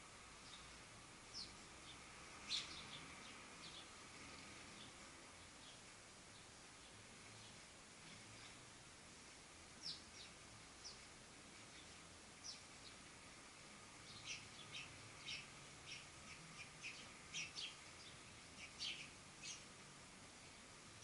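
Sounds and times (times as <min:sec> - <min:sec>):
sparrows chirping: 0:00.3 - 0:21.0.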